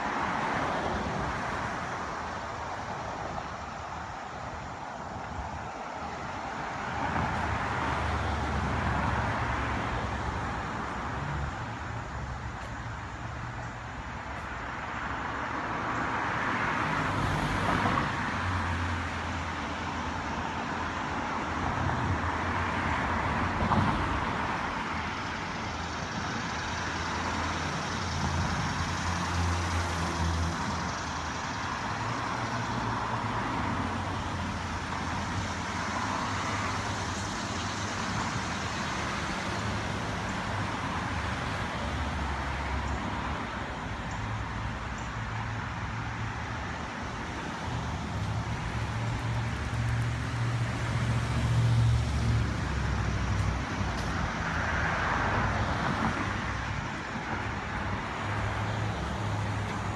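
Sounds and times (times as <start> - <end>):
road vehicle tyres and engine: 0.0 - 59.9.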